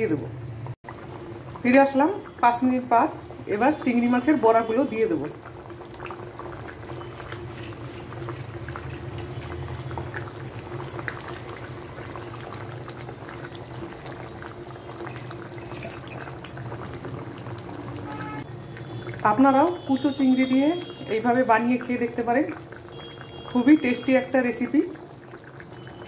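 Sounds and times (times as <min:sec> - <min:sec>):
gravy bubbling in a pan: 0:00.0 - 0:26.0.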